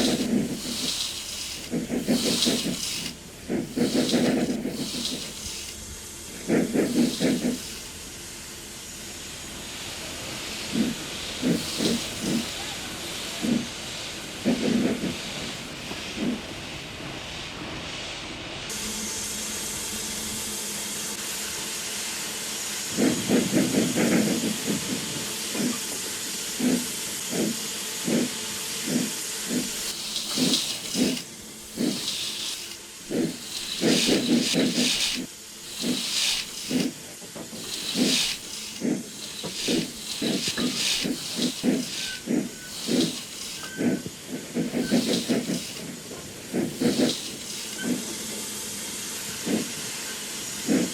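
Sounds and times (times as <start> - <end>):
steam hissing: 0.0 - 19.9, 22.8 - 50.9
steam locomotive exhaust beats: 0.0 - 21.6, 22.5 - 50.9.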